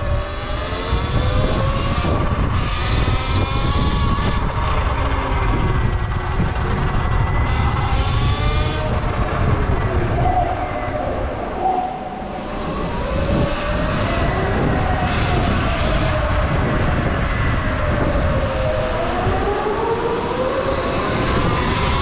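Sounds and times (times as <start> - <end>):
electric dirt bike motor whining: 0.0 - 11.0, 12.2 - 22.0
wind rumble on microphone: 0.0 - 22.0.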